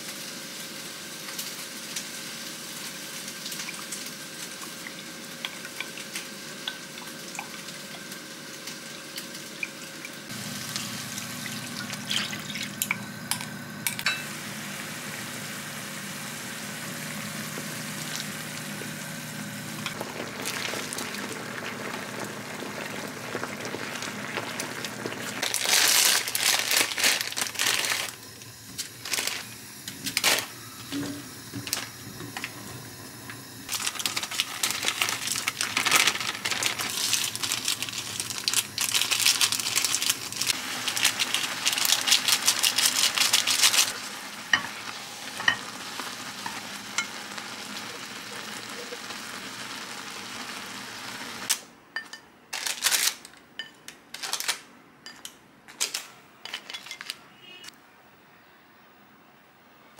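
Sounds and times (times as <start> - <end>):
noodles sizzling in a pot: 0.0 - 51.6.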